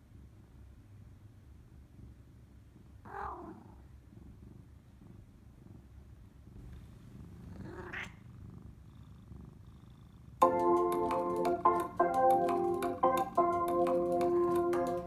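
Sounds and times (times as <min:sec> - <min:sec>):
cat purring: 0:01.5 - 0:15.0.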